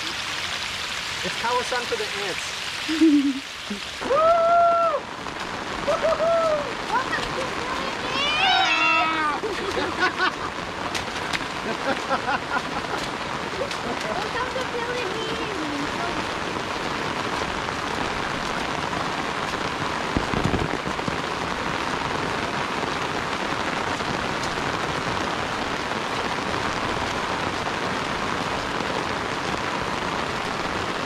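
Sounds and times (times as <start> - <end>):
rain on an umbrella: 0.0 - 31.0.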